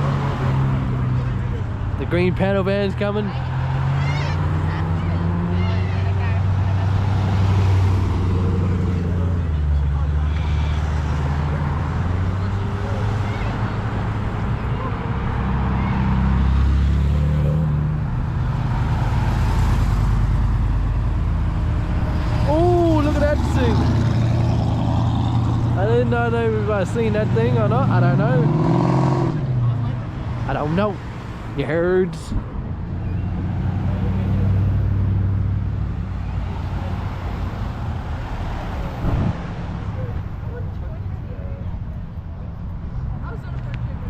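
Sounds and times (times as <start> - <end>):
car engine passing: 0.0 - 44.0.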